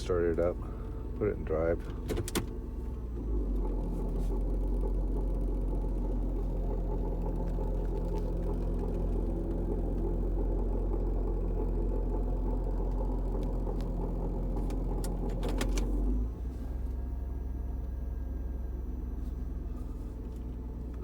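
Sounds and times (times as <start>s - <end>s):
car engine idling with growl: 0.0s - 21.0s.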